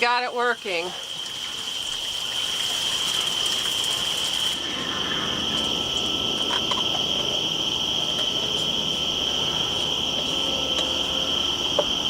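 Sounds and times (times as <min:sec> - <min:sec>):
high hiss: 0:00.0 - 0:12.0
insects chirring: 0:00.0 - 0:12.0.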